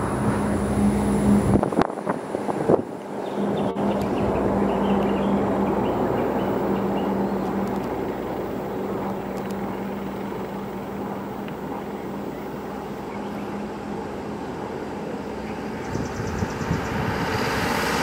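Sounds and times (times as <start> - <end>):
vehicle engines humming: 0.0 - 18.0.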